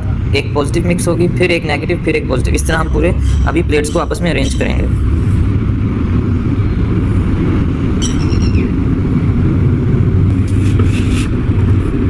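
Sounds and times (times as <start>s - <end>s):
motor rumbling: 0.0s - 12.0s.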